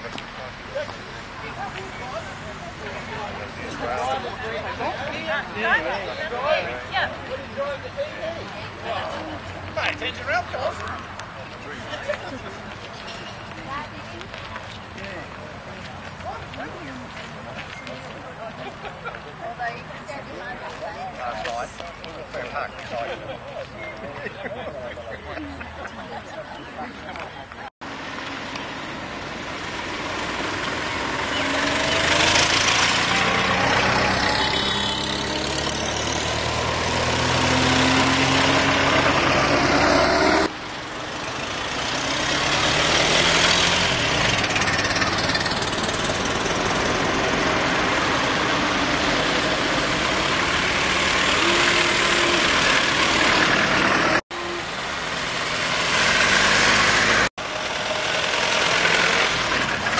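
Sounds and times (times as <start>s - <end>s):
old car engines driving past: 0.0s - 59.9s.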